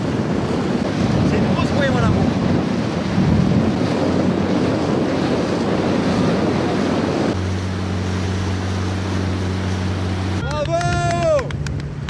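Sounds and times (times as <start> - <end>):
water sloshing: 0.0 - 10.4
wind buffeting microphone: 0.0 - 12.0
low motor hum: 2.1 - 12.0.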